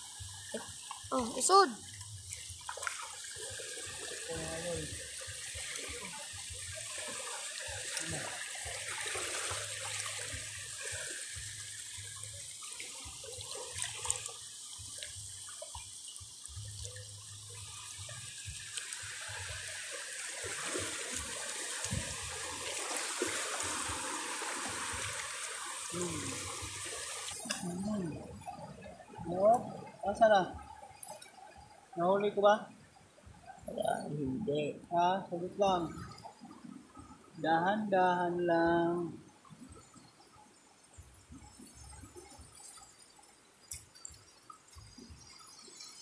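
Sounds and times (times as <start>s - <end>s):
shallow seawater trickling: 0.0s - 33.8s, 34.5s - 46.0s.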